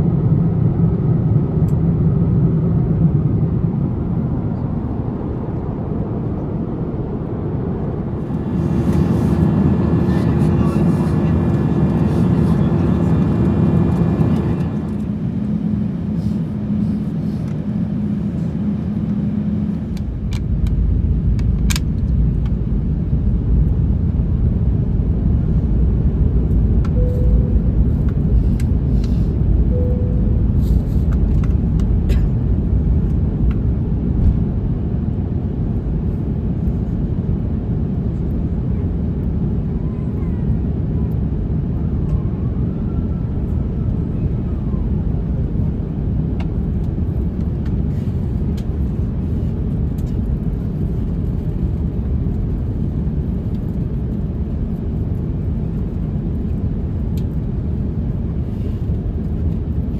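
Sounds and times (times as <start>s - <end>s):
heavy low rumble: 0.0s - 59.9s
jet cabin engine and airflow noise: 0.0s - 59.9s.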